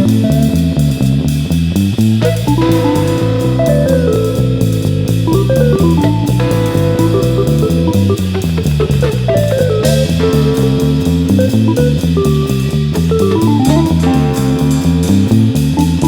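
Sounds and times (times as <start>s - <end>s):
bass guitar: 0.0s - 16.0s
drums: 0.0s - 16.0s
guitar: 0.0s - 16.0s.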